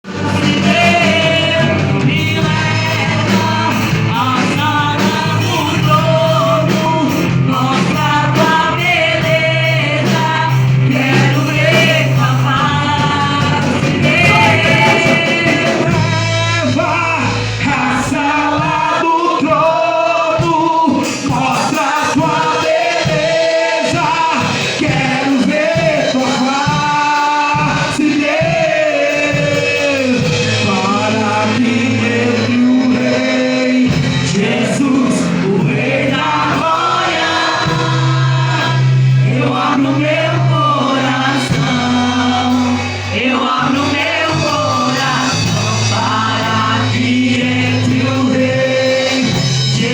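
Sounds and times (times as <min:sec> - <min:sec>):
band playing worship song: 0:00.0 - 0:49.9
drums: 0:00.0 - 0:49.9
people singing: 0:00.0 - 0:49.9.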